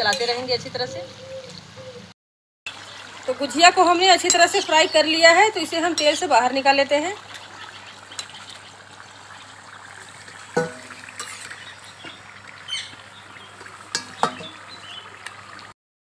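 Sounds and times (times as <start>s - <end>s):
oil trickling into pan: 2.7s - 15.7s
hot oil bubbling and hissing: 2.7s - 15.8s.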